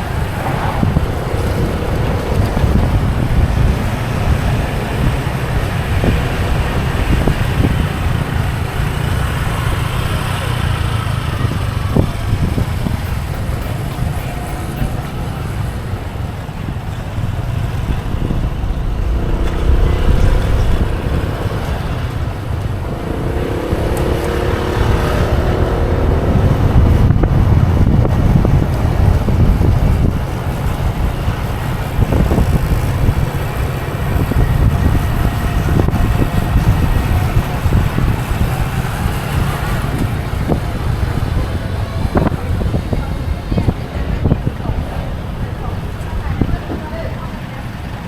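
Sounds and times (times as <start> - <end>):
motorbike engine rumble: 0.0 - 48.0
road noise: 0.0 - 48.0
wind buffeting microphone: 0.0 - 48.0.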